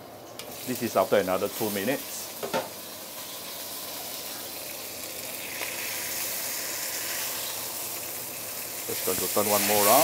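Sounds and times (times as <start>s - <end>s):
fish sizzling in oil: 0.4s - 10.0s.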